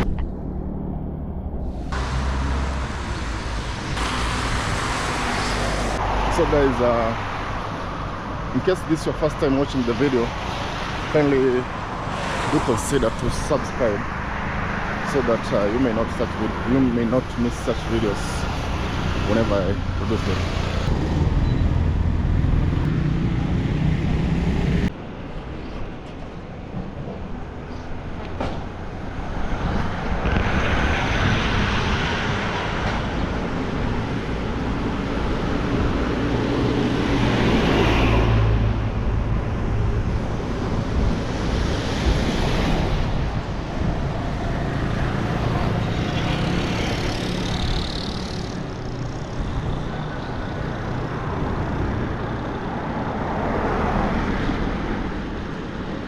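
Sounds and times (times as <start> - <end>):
traffic rumble: 0.0 - 56.0
vehicles passing: 0.0 - 56.0.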